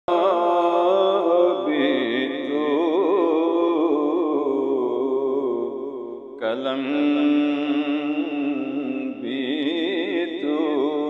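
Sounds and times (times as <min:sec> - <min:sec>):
man chanting wordlessly: 0:00.1 - 0:11.0.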